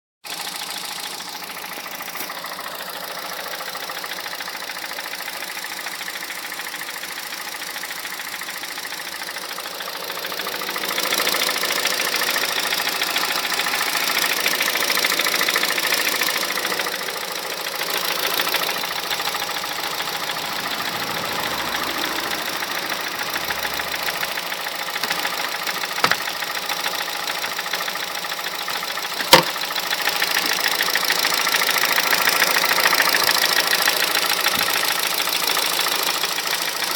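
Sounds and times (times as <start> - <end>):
car engine running with a knock: 0.3 - 36.9.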